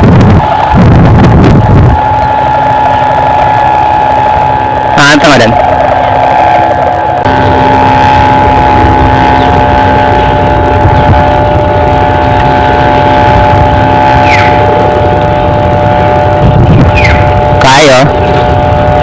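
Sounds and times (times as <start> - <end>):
kite hummer droning: 0.0 - 19.0
low rumble: 0.0 - 19.0.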